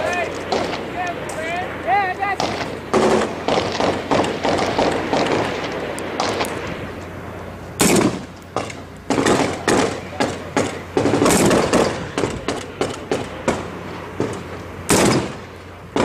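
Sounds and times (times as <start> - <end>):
rifle gunfire: 0.4 - 1.0, 2.4 - 6.6, 7.8 - 16.0.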